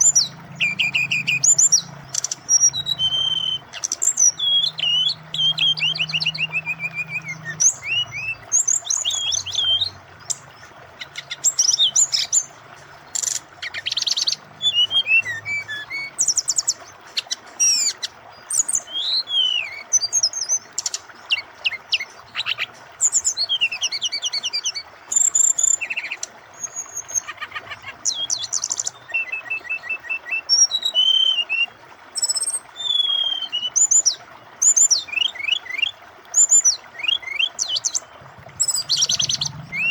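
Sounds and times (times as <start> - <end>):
bird singing trills and whistles: 0.0 - 39.9
flowing water rushing: 0.0 - 39.9.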